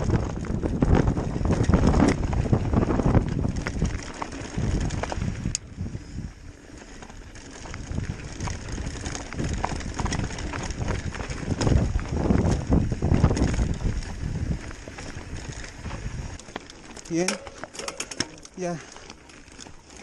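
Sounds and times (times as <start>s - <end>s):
wind buffeting microphone: 0.0s - 17.7s
bike clicks and rattles: 0.0s - 20.0s
bike tyres rumbling over stones: 0.0s - 20.0s.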